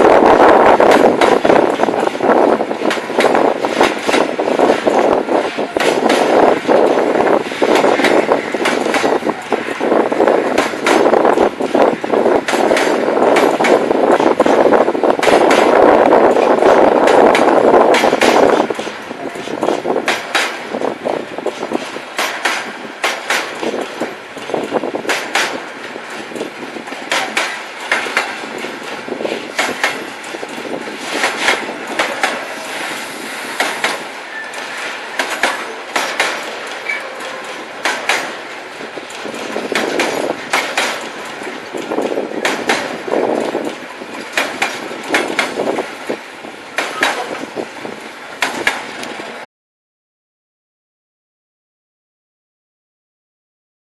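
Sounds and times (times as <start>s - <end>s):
train wheels knocking over rail joints: 0.0s - 49.4s
freight train rolling: 0.0s - 49.5s.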